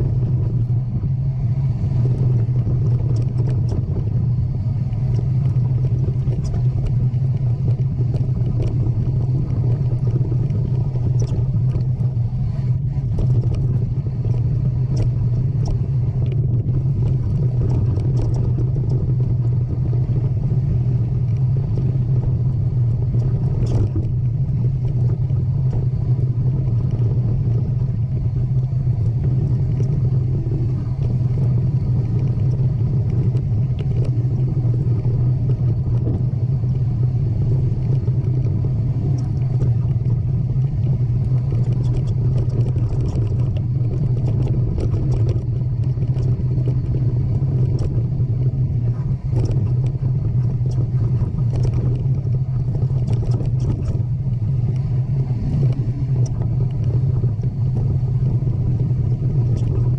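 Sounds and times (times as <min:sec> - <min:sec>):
steady low rumble: 0:00.0 - 0:59.9
light clicks and rattles: 0:02.1 - 0:12.2, 0:12.9 - 0:54.9.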